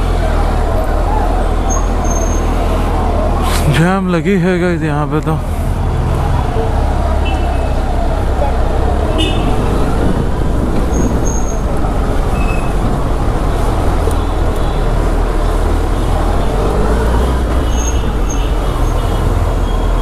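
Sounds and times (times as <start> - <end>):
motorcycle engine rumbling: 0.0 - 20.0
street traffic: 0.0 - 20.0.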